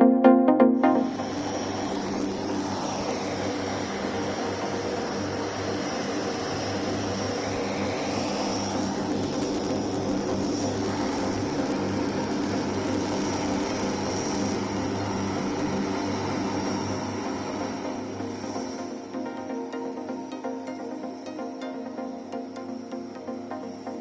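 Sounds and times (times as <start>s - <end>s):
turboprop engines droning: 0.8s - 24.0s.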